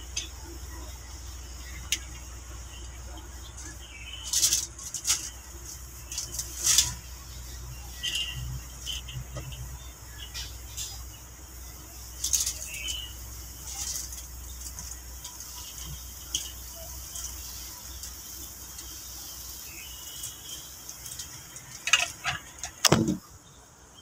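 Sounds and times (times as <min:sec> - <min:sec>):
steady high hiss: 0:00.0 - 0:24.0
sharp knocks and rustles: 0:01.2 - 0:19.4, 0:20.1 - 0:23.3.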